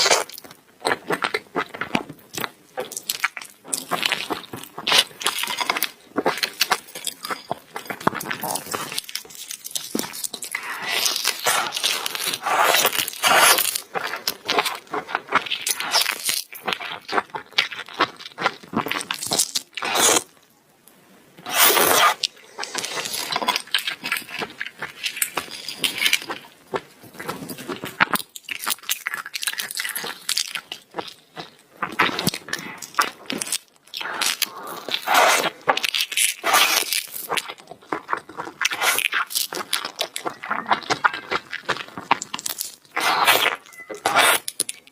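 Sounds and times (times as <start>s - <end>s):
chewing and crunching food: 0.0s - 20.4s, 21.5s - 44.9s.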